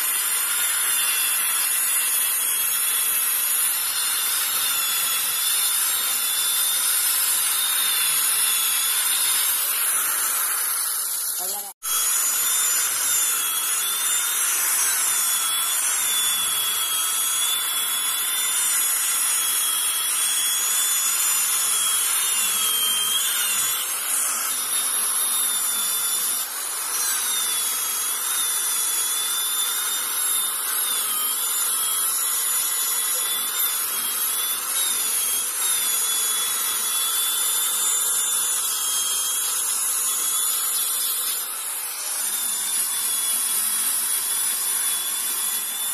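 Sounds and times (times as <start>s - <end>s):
electric drill motor whine: 0.0s - 45.9s.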